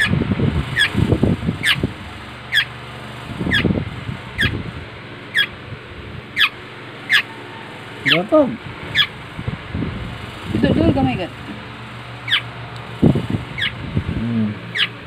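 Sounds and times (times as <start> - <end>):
bird fledgling calling: 0.0 - 5.6, 6.2 - 14.0, 14.7 - 15.0.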